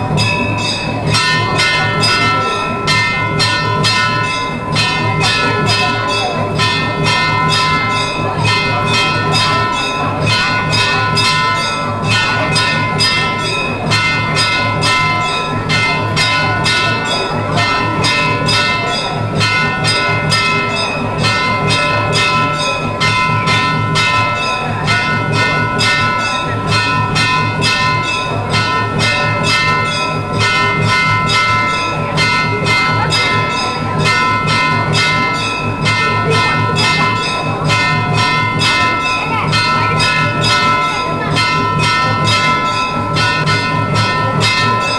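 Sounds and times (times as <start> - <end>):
temple bells ringing: 0.0 - 44.9.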